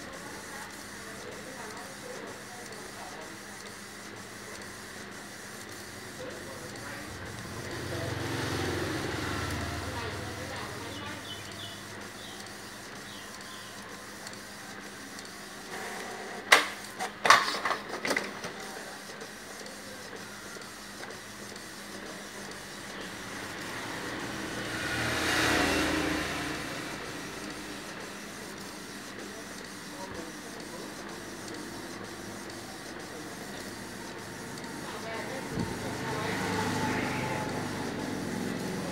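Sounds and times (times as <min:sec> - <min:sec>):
printer running: 0:00.0 - 0:38.9
printer whirring pass: 0:00.0 - 0:38.9
sharp printer clacks: 0:00.0 - 0:38.9.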